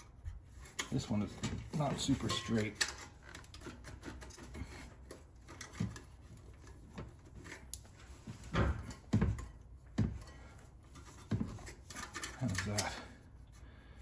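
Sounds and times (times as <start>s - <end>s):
metal exhaust tip rubbing and scraping: 0.0s - 13.3s.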